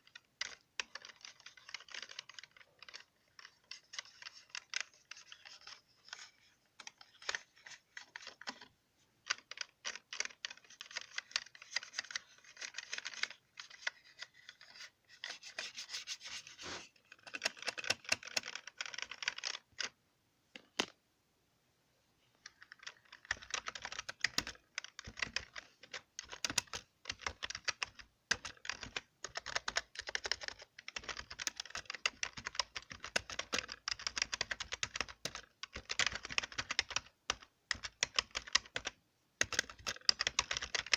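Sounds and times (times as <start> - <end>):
keyboard keys clicking: 0.0 - 14.9, 17.1 - 19.9, 22.5 - 40.9.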